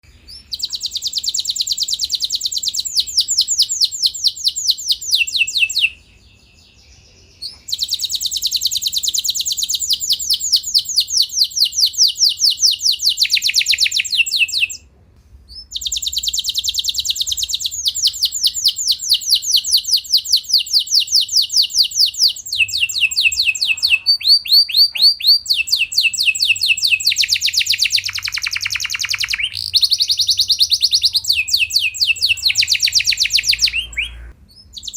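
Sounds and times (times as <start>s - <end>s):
canary singing trills: 0.0s - 14.9s, 15.5s - 34.9s.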